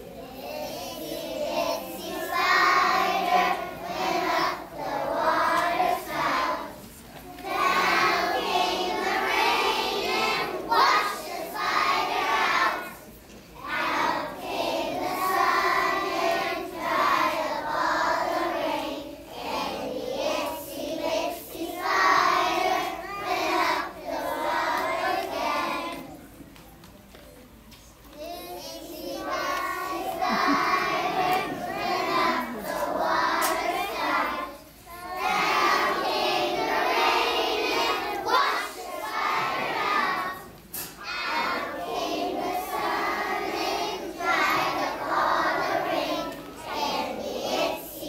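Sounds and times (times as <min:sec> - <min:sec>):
children's choir singing: 0:00.0 - 0:26.4, 0:28.1 - 0:48.0.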